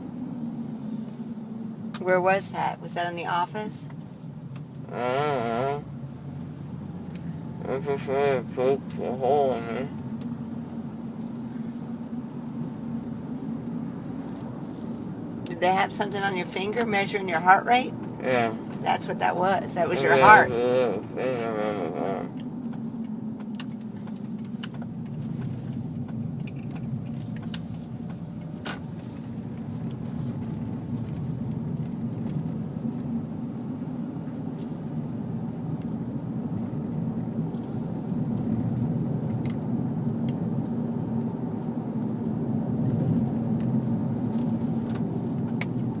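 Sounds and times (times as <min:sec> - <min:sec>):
car cabin rumble: 0:01.0 - 0:46.0.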